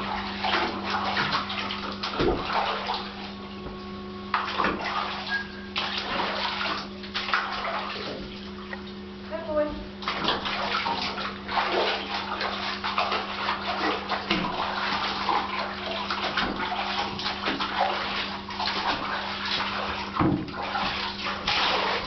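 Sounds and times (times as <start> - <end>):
bathwater splashing: 0.0 - 3.6, 4.2 - 9.3, 9.9 - 22.0
steady low hum: 0.0 - 22.0.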